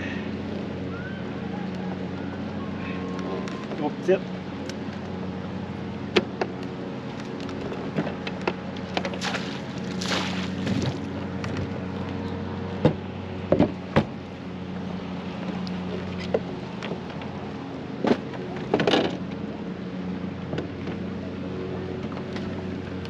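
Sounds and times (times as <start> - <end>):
small boat motor humming: 0.0 - 23.0.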